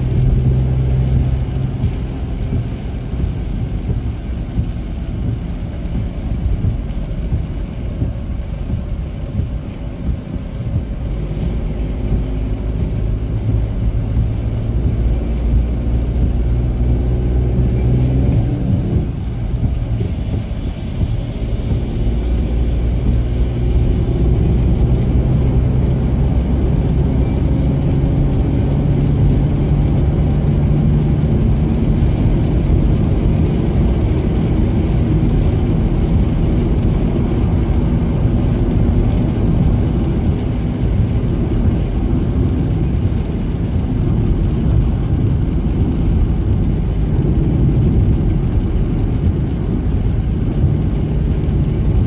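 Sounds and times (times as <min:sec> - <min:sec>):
low engine drone: 0:00.0 - 0:52.0.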